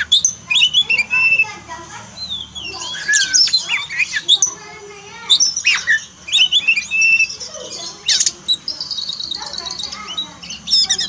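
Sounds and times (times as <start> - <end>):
bird chattering: 0.0 - 11.0
songbird singing whistled notes: 0.0 - 11.0.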